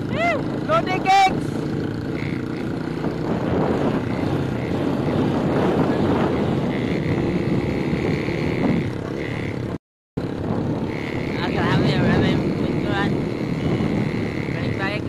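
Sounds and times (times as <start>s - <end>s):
small motorcycle engine running: 0.0s - 15.0s
wind on microphone: 0.0s - 15.0s.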